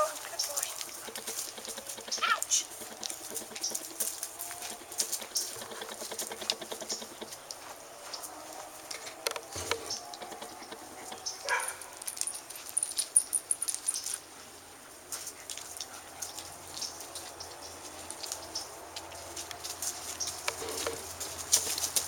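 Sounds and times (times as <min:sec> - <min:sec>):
light clicks and rustles: 0:00.0 - 0:14.2, 0:15.1 - 0:22.0.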